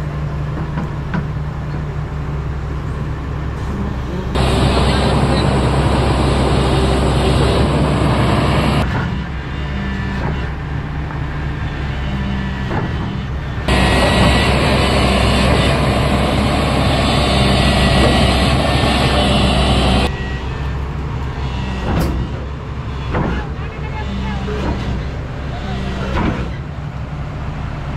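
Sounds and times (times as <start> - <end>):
excavator diesel engine droning: 0.0 - 27.9.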